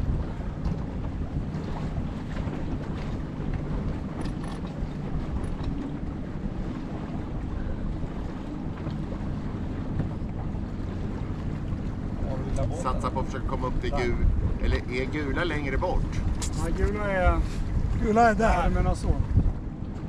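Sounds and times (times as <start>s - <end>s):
low wind rumble on microphone: 0.0s - 20.0s.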